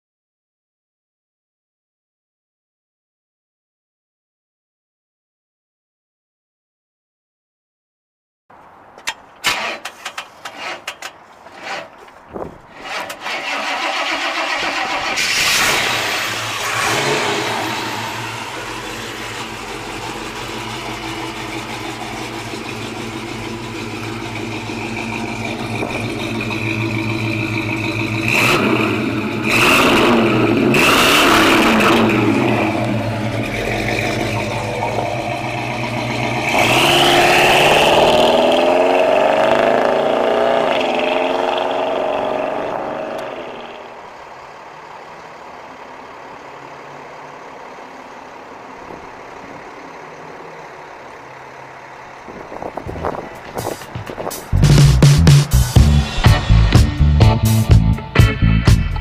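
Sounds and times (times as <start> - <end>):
car engine idling and revving: 8.5 - 59.0.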